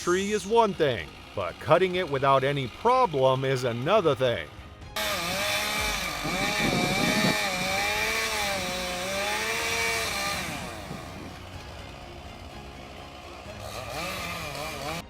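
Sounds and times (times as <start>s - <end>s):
chainsaw cutting at high revs: 0.0s - 15.0s.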